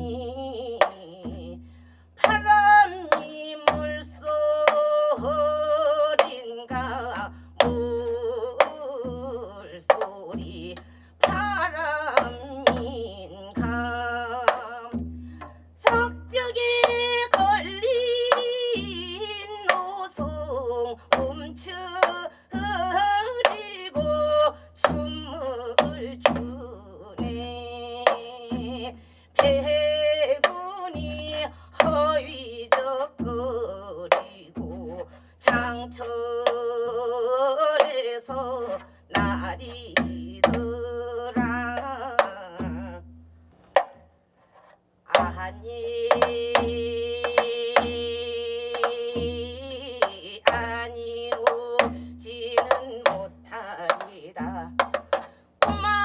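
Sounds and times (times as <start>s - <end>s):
woman singing folk song: 0.0s - 56.0s.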